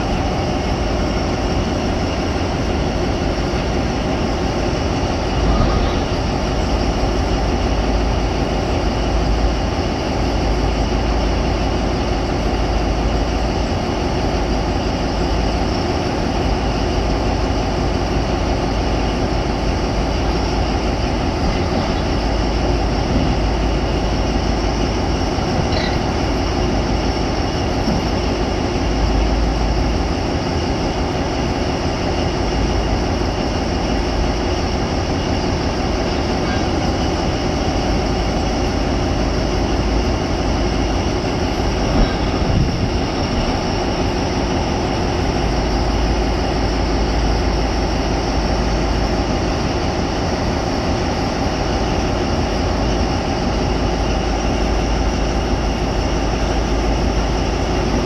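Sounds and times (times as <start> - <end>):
heavy machinery rumble: 0.0 - 58.0.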